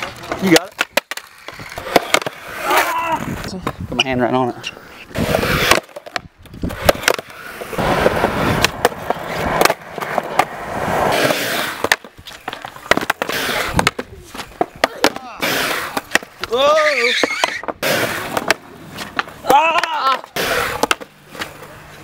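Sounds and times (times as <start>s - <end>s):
skateboard deck clacks: 0.0s - 3.8s, 4.6s - 21.7s
skateboard trucks grinding on ledge: 0.0s - 22.0s
skateboard wheels rolling on concrete: 0.0s - 22.0s.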